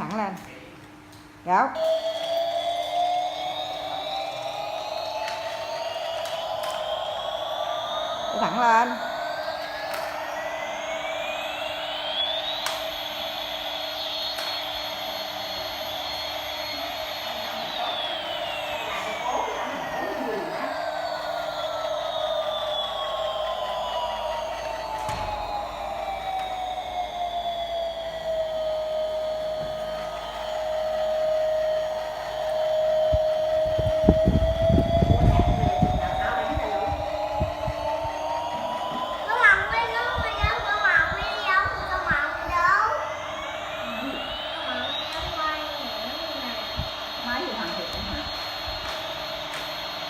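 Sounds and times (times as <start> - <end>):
toy plane whirring and whining: 1.8 - 50.0.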